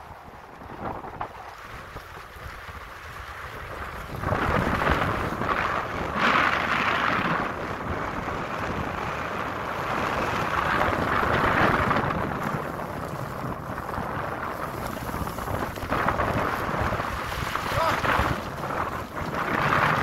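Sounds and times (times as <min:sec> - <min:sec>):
wind rumbling on microphone: 0:00.0 - 0:20.0
skis scraping over snow: 0:00.4 - 0:20.0.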